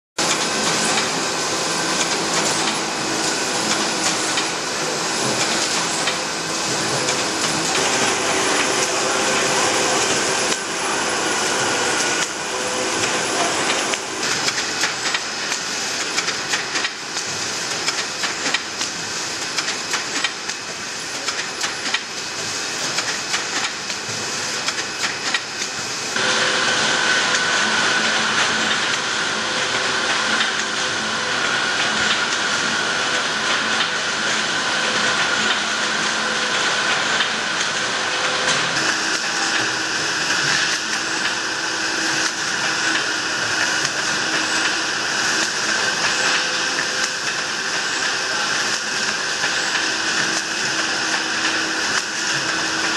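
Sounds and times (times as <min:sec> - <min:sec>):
machinery clattering and clicking: 0:00.2 - 0:52.9
machinery hiss and hum: 0:00.2 - 0:52.9.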